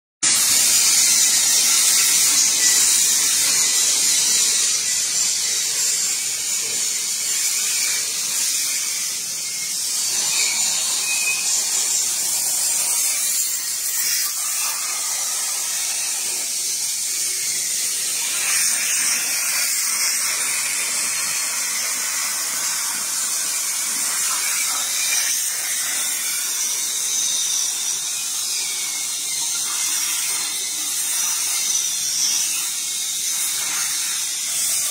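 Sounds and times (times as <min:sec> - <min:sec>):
plasma torch hissing: 0:00.2 - 0:34.9.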